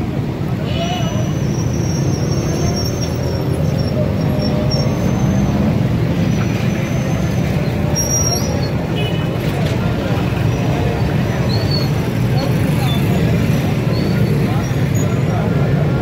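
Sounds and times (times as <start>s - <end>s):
traffic rumble: 0.0s - 16.0s
voices of passers-by: 0.0s - 16.0s.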